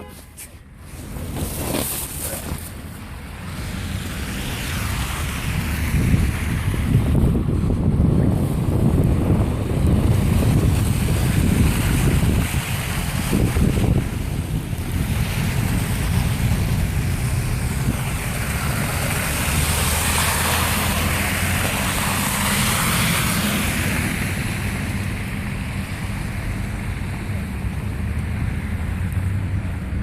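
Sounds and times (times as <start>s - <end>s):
wind buffeting microphone: 4.8s - 30.0s.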